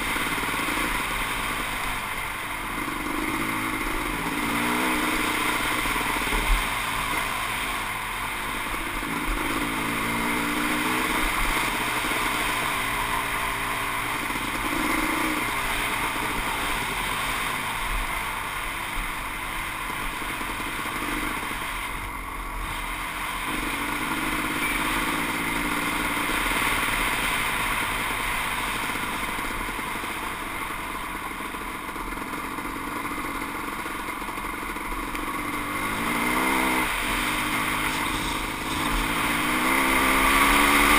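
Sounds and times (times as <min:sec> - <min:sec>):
dirt bike engine revving: 0:00.0 - 0:30.7, 0:34.8 - 0:40.9
steady rush of noise: 0:00.0 - 0:40.9.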